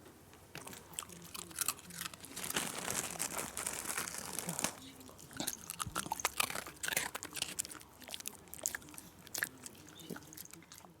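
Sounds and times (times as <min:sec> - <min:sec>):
dog crunching a hard treat: 0:00.5 - 0:11.0.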